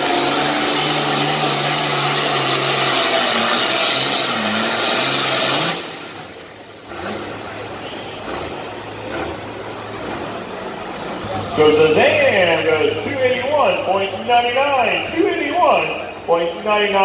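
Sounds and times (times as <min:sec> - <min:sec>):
diesel tractor engine under load: 0:00.0 - 0:17.0.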